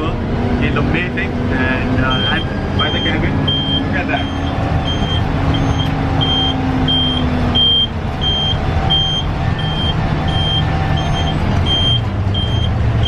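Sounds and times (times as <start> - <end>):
bus engine droning: 0.0 - 13.0
electronic warning beeper: 2.0 - 12.8.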